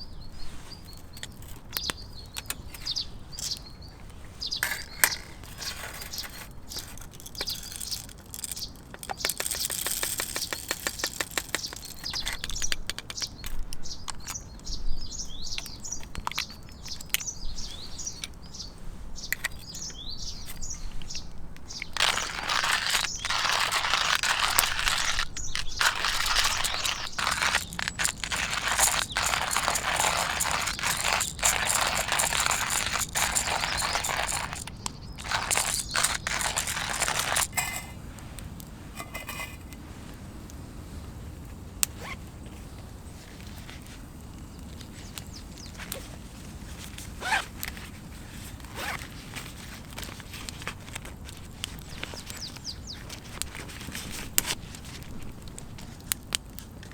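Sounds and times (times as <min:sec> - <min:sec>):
rustling and scraping handling noise: 0:00.0 - 0:56.9.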